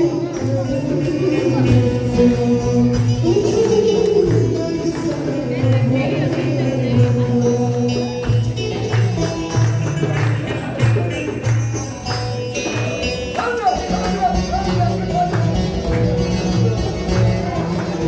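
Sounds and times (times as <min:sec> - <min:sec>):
folk music on lute: 0:00.0 - 0:18.0
hand drums steady beat: 0:00.0 - 0:18.0
hands clapping along: 0:00.0 - 0:18.0.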